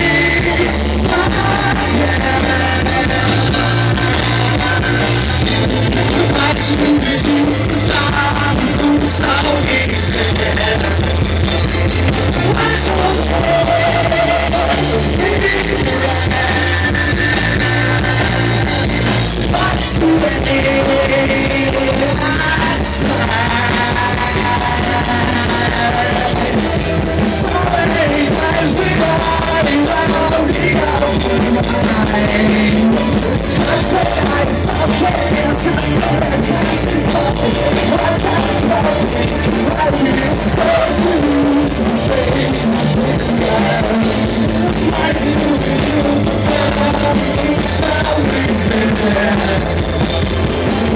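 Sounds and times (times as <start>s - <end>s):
person singing: 0.0s - 50.9s
rock band playing: 0.0s - 50.9s.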